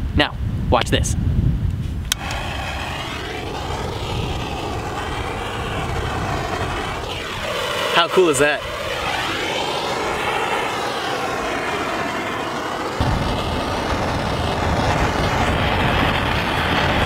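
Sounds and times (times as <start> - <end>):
propane torch hissing roar: 2.1 - 17.0.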